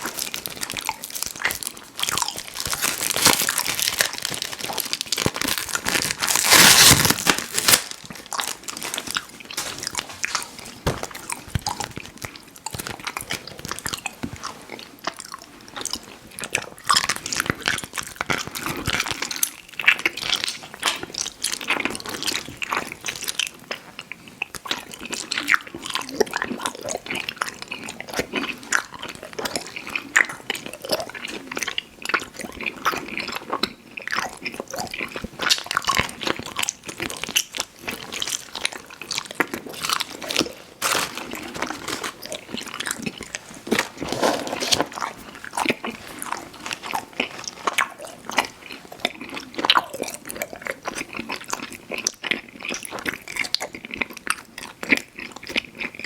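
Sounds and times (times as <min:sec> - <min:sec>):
wet mouth chewing candy: 0:00.0 - 0:56.0.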